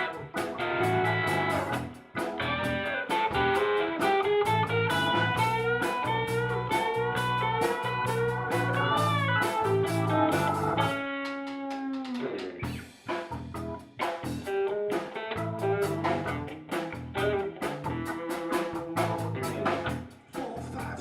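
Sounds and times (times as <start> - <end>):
drum kit beat: 0.0 - 21.0
guitar and bass lines: 0.0 - 21.0.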